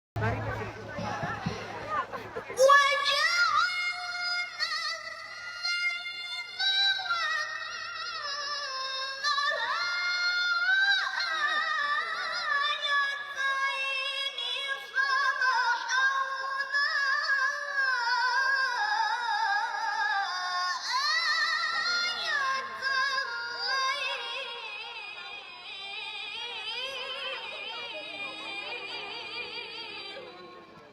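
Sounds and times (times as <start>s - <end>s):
person reciting melodically: 0.9s - 30.9s.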